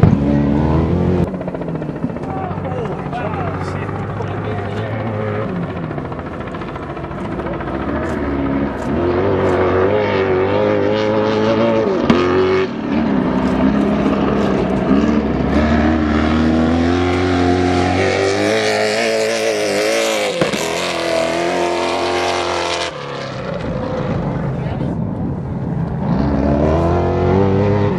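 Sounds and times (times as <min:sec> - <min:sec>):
truck engines revving: 0:00.0 - 0:27.9.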